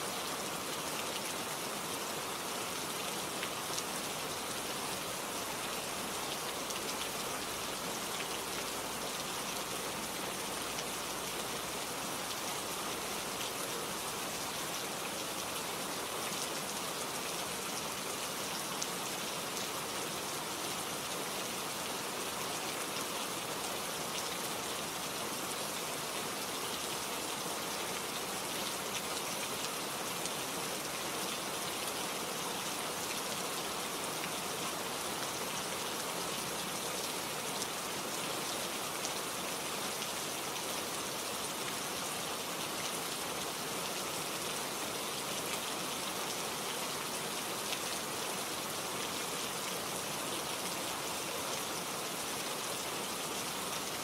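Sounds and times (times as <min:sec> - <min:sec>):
rain hissing on leaves: 0:00.0 - 0:54.0.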